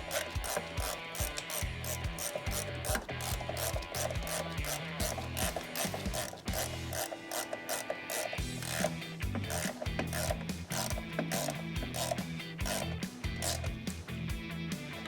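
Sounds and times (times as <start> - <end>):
ratchet wrench clicking: 0.0 - 13.9.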